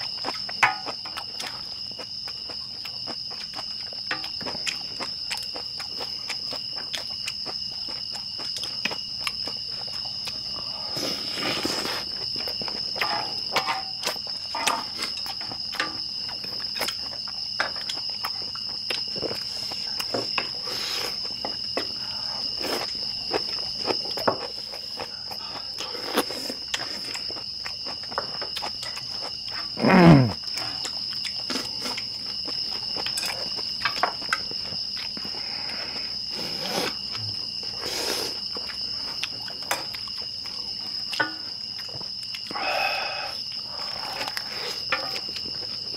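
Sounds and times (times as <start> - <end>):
eating sounds: 0.0 - 45.9
night insects chirring: 0.0 - 45.9.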